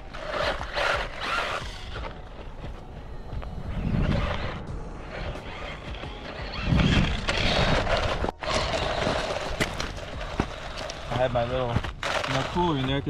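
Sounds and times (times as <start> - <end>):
electric motor whining: 0.0 - 2.5, 3.3 - 13.0
tyres scrabbling on dirt: 0.0 - 13.0.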